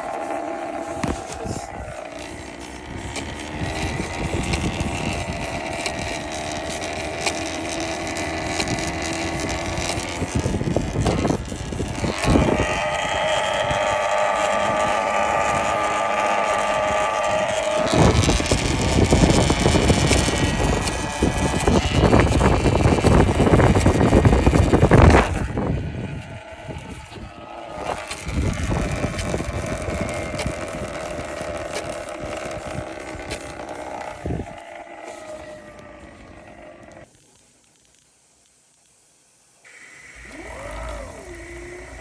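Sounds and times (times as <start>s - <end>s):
electric dirt bike motor whine: 0.0s - 37.2s, 39.6s - 42.0s.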